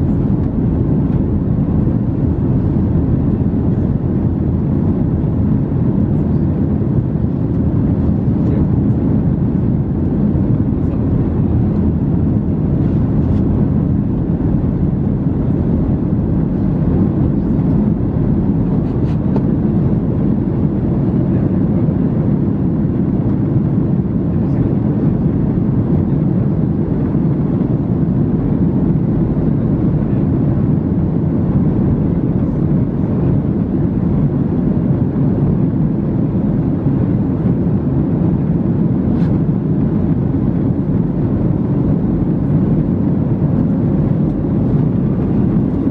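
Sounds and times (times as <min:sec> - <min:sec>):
airflow rush in aircraft cabin: 0:00.0 - 0:45.9
jet engines at climb power: 0:00.0 - 0:45.9.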